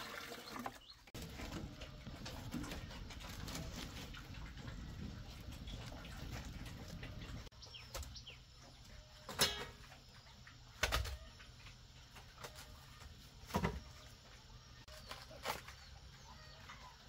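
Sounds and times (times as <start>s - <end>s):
chickens clucking: 0.4s - 17.0s.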